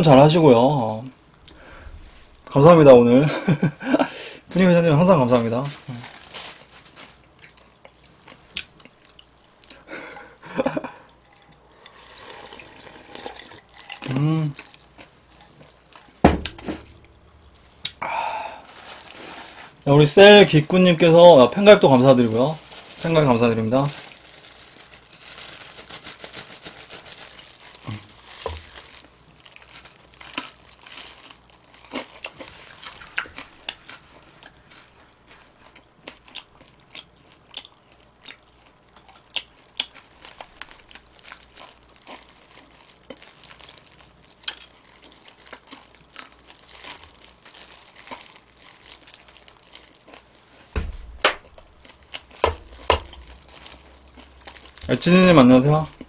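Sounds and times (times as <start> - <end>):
plastic glove crinkling: 0.0 - 56.0.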